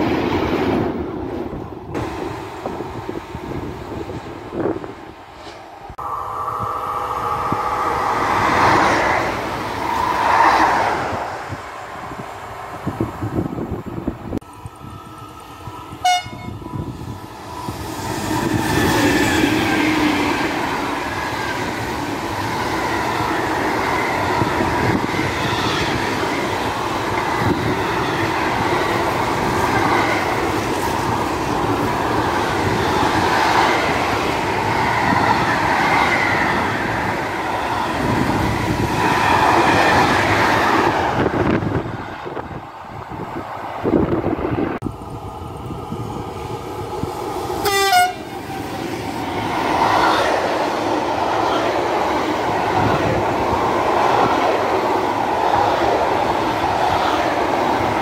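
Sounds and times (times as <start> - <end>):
electric locomotives passing: 0.0 - 58.0
train wheels on rails: 0.0 - 58.0.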